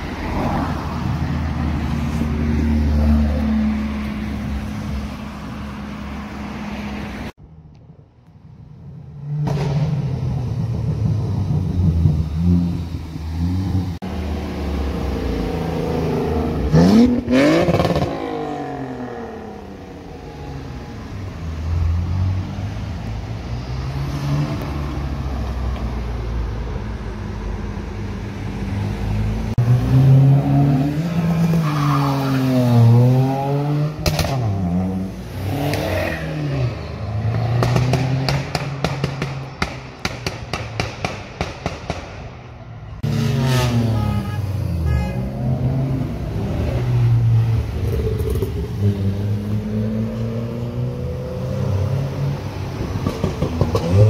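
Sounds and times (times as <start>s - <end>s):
cars driving past: 0.0s - 7.4s, 8.9s - 54.0s.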